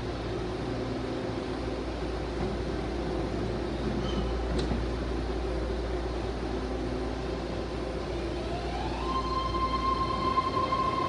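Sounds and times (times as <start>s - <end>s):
train car humming: 0.0s - 11.0s.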